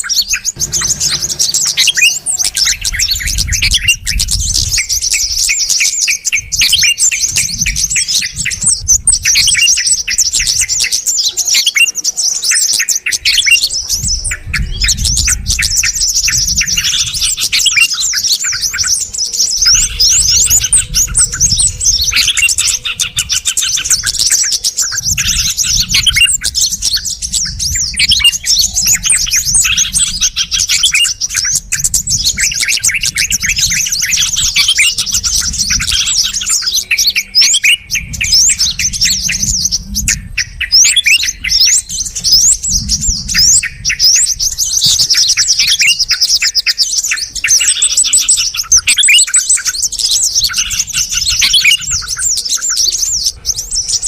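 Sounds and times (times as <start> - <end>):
bulbuls chattering: 0.0 - 54.0.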